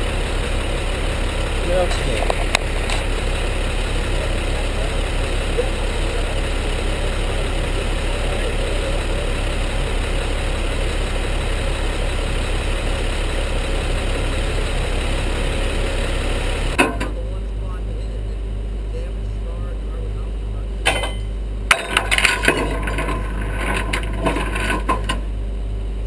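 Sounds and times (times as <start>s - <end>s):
tow truck engine idling: 0.0s - 26.0s.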